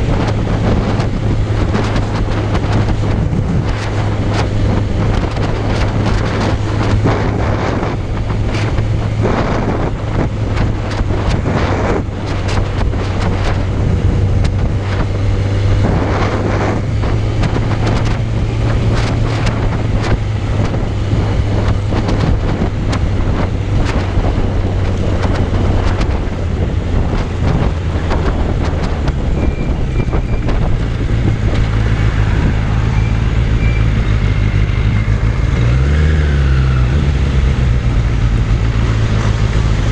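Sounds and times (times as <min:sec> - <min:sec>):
motorcycle engine running: 0:00.0 - 0:39.9
wind buffeting on microphone: 0:00.0 - 0:39.9.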